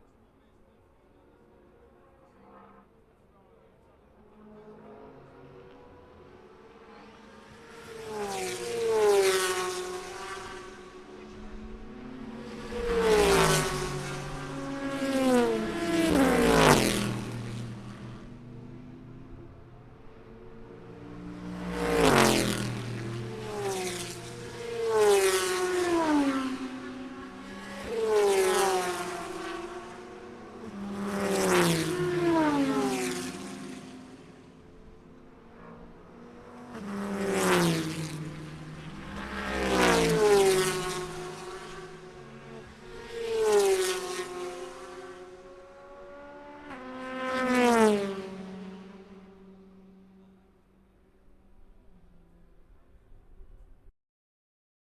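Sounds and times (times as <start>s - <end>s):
race cars passing by: 0.1s - 53.8s.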